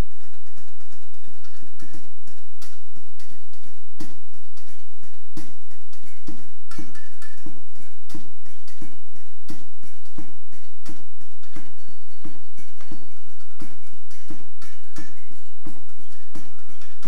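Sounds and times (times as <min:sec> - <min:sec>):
drumsticks on barrels and pots: 0:00.2 - 0:17.0.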